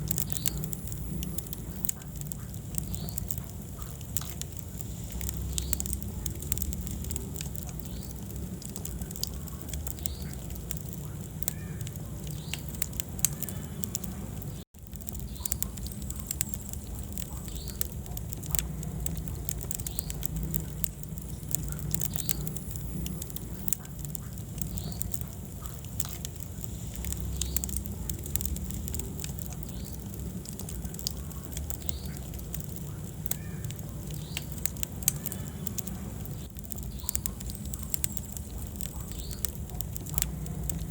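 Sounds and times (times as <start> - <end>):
low rumble of flame: 0.0 - 40.9
wood fire crackling and popping: 0.0 - 40.9.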